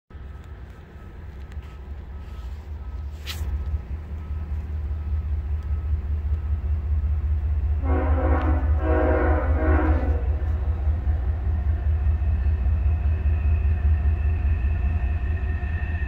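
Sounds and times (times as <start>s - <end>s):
diesel locomotive rumble: 0.1s - 16.0s.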